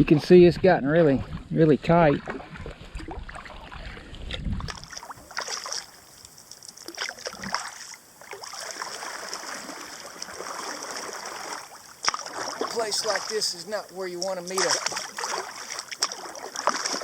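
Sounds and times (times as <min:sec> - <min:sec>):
water dripping and splashing: 0:00.0 - 0:17.0
paddle strokes in water: 0:01.0 - 0:17.0.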